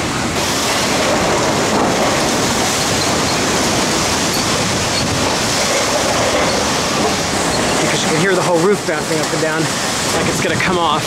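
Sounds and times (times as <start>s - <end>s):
hurricane wind and rain: 0.0s - 11.0s.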